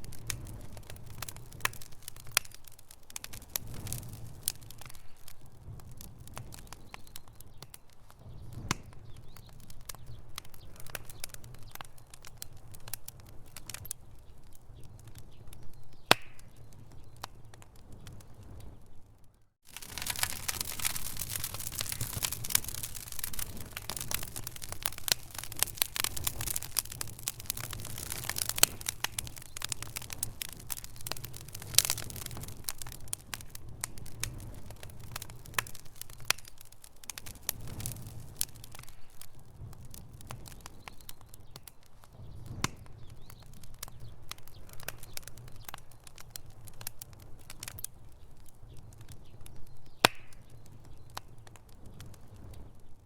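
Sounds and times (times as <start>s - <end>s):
fire crackling and popping: 0.0s - 53.0s
low rumble of flame: 0.0s - 53.0s.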